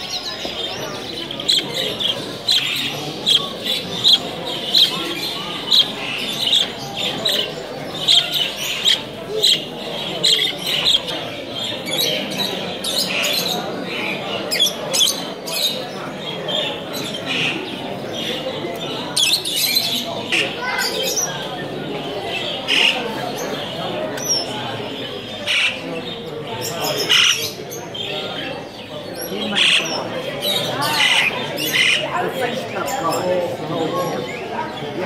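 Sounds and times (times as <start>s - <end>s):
caged birds chirping: 0.0s - 35.0s
murmur of people talking: 0.0s - 35.0s.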